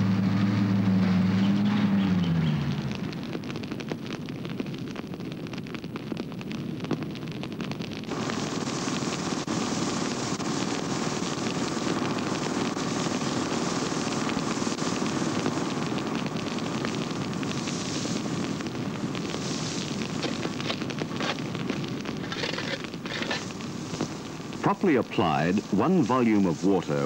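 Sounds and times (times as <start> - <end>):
forest fire rushing and crackling: 0.0 - 27.0.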